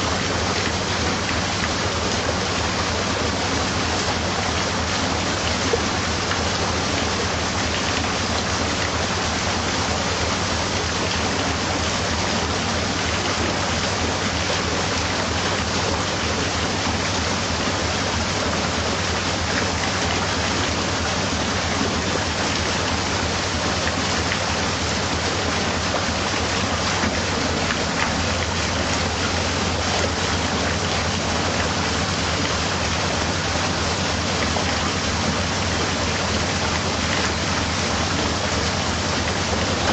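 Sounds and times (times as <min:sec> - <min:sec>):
water rushing through lock paddles: 0:00.0 - 0:39.9.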